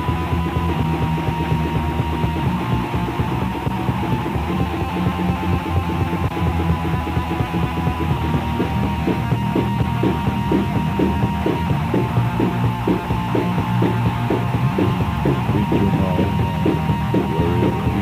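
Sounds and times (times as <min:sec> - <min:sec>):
black metal band playing: 0:00.0 - 0:18.0.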